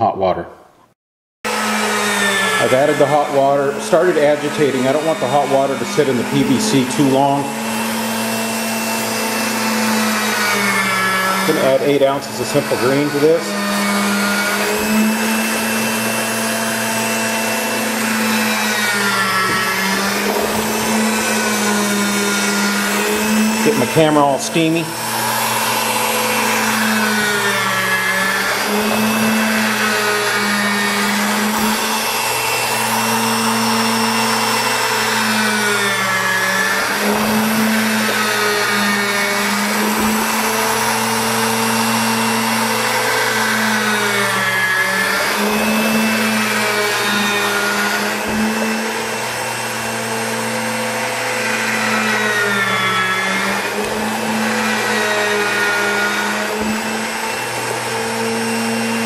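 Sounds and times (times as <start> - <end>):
electric motor humming: 1.5 - 59.0.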